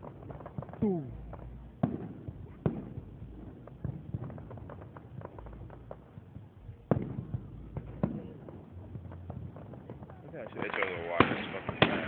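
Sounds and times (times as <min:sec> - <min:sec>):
distant fireworks bangs: 0:00.0 - 0:12.0
firework pops and crackles: 0:00.0 - 0:12.0.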